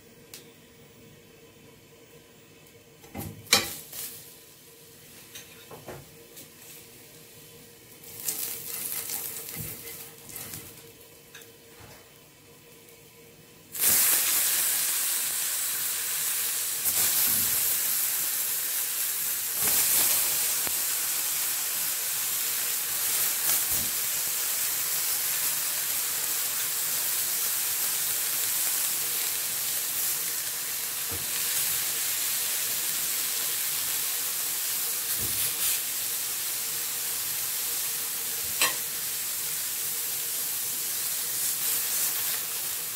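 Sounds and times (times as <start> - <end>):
eggplant sizzling on grill pan: 3.0 - 13.1, 13.7 - 42.9.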